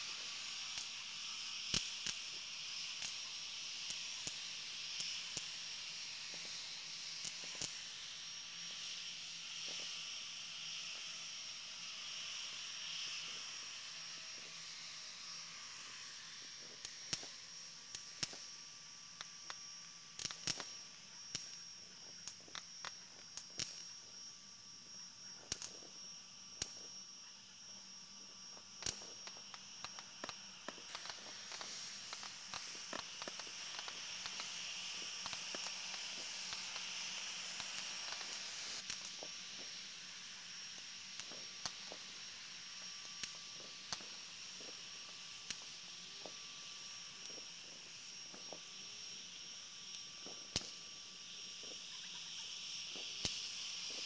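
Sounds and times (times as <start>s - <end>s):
fireworks popping and cracking: 0.0s - 24.3s, 25.1s - 54.0s
steady high hiss: 0.0s - 54.0s.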